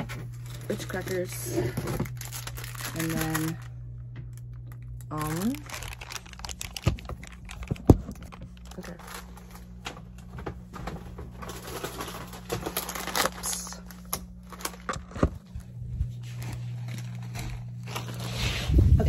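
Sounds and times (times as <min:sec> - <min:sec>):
plastic bags crinkling: 0:00.0 - 0:15.6, 0:16.2 - 0:18.8
low hum: 0:00.0 - 0:19.0.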